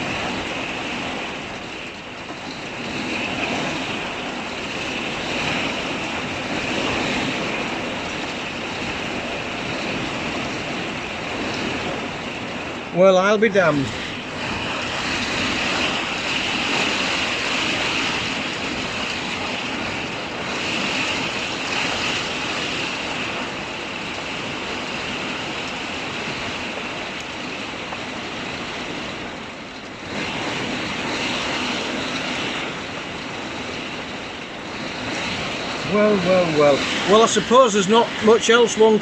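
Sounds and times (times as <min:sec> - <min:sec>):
heavy rain pouring: 0:00.0 - 0:39.0.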